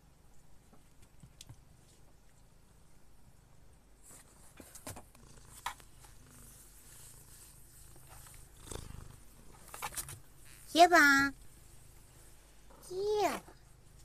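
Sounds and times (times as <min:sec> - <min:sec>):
cat purring: 0:01.6 - 0:14.0.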